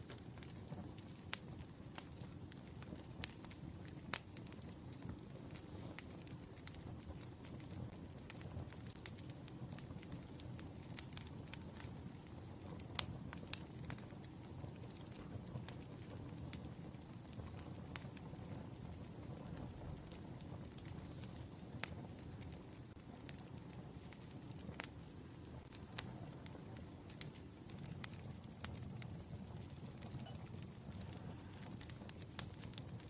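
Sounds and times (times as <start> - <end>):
low rush of burning logs: 0.0 - 33.0
wood fire crackling: 0.0 - 33.0.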